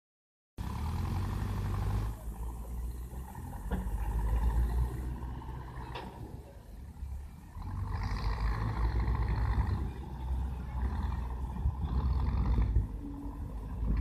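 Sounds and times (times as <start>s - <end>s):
distant diesel engines rumbling: 0.6s - 14.0s.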